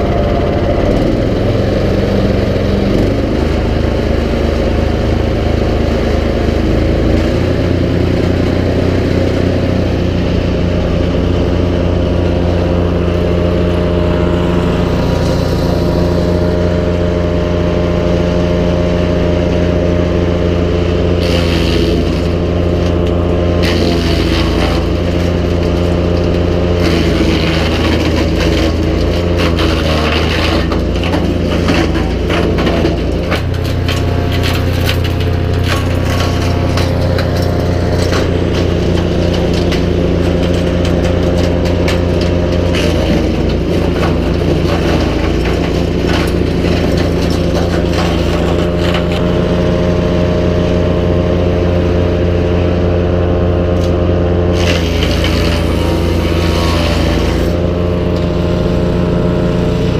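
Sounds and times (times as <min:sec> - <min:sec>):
wood chipper engine running: 0:00.0 - 0:59.9.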